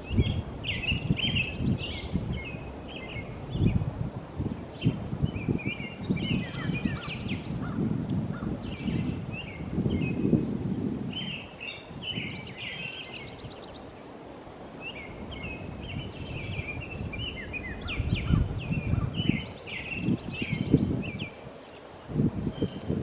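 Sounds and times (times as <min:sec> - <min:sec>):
small birds chirping: 0:00.0 - 0:10.5, 0:11.1 - 0:23.0
wind rumbling on microphone: 0:00.0 - 0:23.0.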